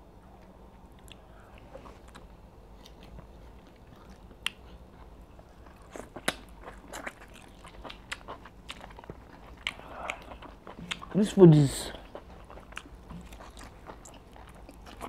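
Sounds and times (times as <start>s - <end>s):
people chewing with lip smacks: 0.1s - 15.0s.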